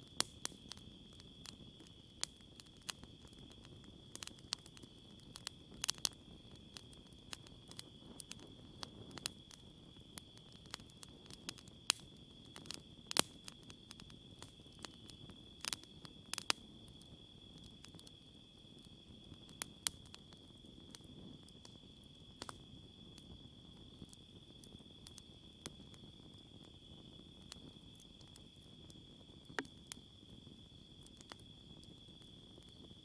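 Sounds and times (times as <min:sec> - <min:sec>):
campfire popping and crackling: 0:00.0 - 0:33.0
night insects chirping: 0:00.0 - 0:33.0.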